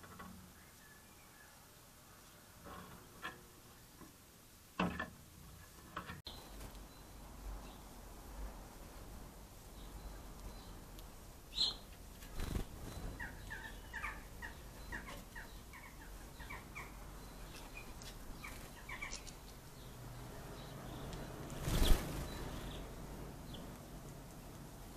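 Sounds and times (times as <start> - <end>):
songbirds chirping: 0.0 - 24.9.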